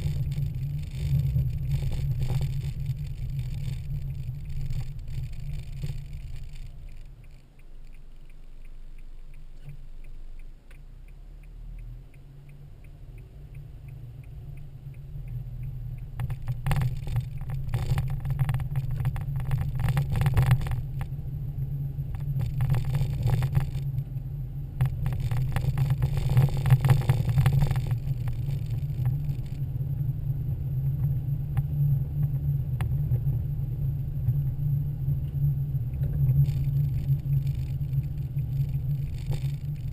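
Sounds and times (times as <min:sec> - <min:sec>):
car engine and road noise: 0:00.0 - 0:39.9
crackling noise: 0:00.0 - 0:39.9.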